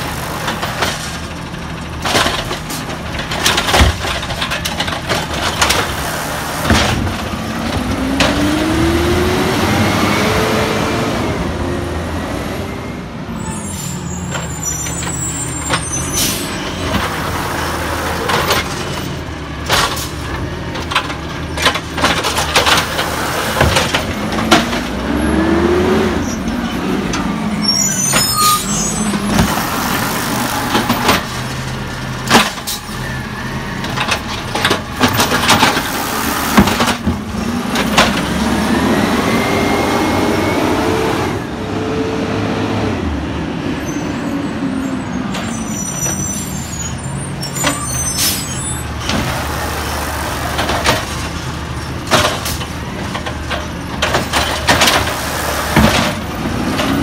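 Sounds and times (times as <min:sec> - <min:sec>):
garbage truck engine revving: 0:00.0 - 0:12.9, 0:14.4 - 0:43.8, 0:45.1 - 0:57.0.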